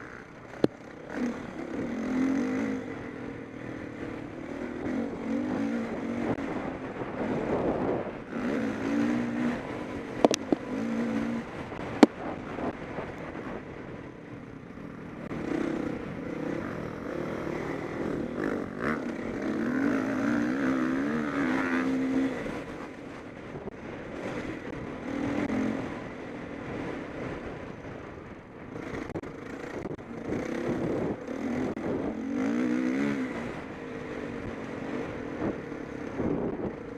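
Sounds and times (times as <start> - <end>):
motocross bikes revving: 0.0 - 12.8, 14.4 - 27.2, 28.8 - 36.9.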